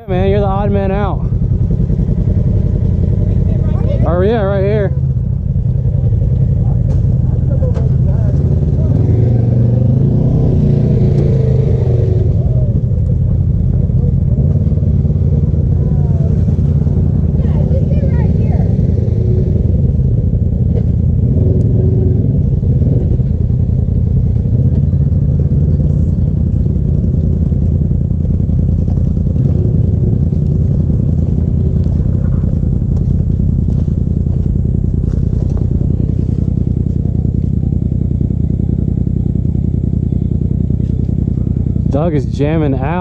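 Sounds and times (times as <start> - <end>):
utility vehicle engine idling: 0.0 - 43.0.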